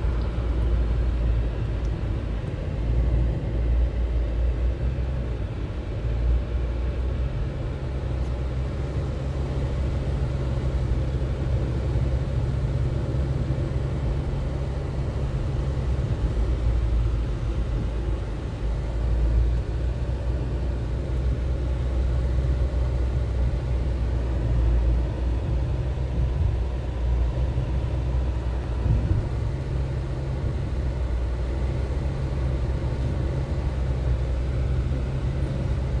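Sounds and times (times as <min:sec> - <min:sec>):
car engine and tyre noise: 0:00.0 - 0:36.0.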